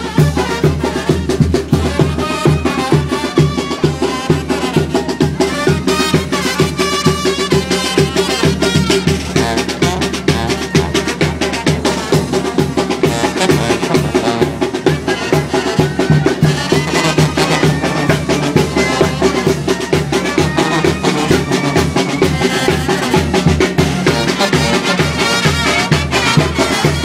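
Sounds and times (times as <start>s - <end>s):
brass band dance music: 0.0s - 27.0s.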